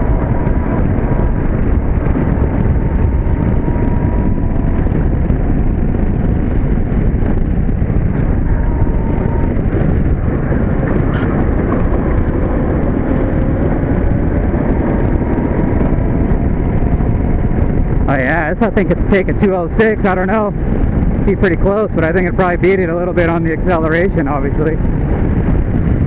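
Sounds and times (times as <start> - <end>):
wind rushing: 0.0 - 26.0.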